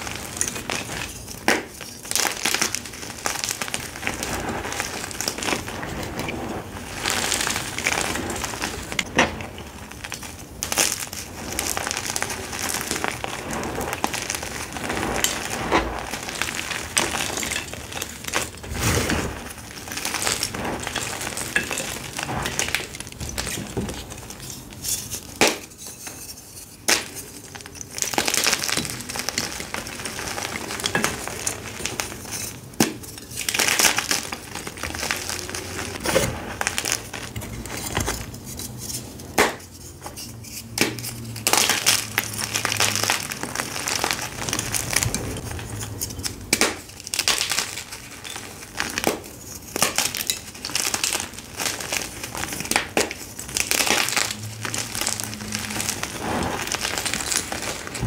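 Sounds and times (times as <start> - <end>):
chalk crunching and scraping: 0.0 - 27.4, 28.0 - 47.1, 47.8 - 58.0.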